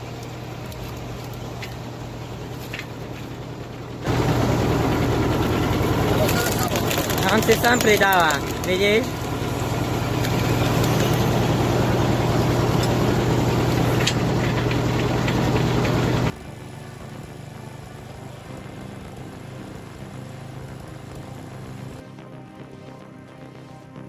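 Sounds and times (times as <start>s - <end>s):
machine engine humming: 0.0s - 24.0s.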